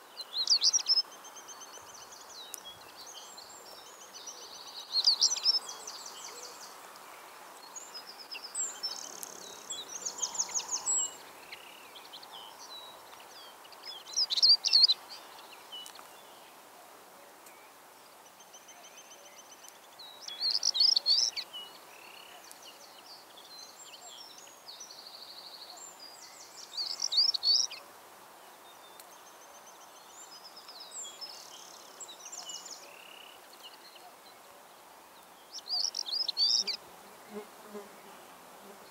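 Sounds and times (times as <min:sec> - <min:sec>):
songbirds singing trills: 0:00.0 - 0:16.6, 0:17.5 - 0:27.8, 0:28.5 - 0:38.9
faint background hiss: 0:00.0 - 0:38.9.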